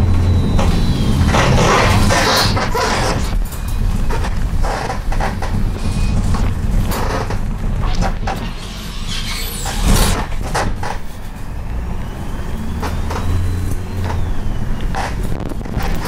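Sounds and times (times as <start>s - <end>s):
bus body creaking and knocking: 0.0s - 12.0s, 12.7s - 16.0s
low engine drone: 0.0s - 16.0s.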